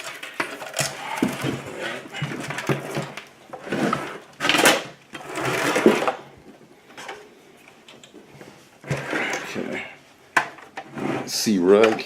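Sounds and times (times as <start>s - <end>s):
hardware rattling and scraping: 0.0s - 12.0s.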